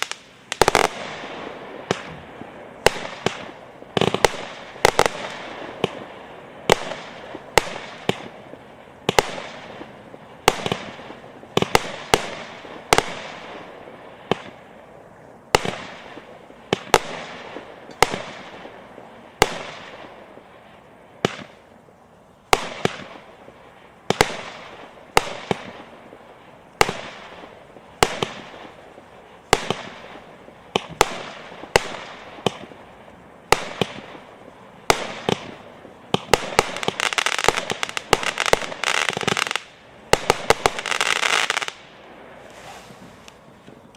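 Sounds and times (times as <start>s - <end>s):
fireworks reports: 0.0s - 43.9s.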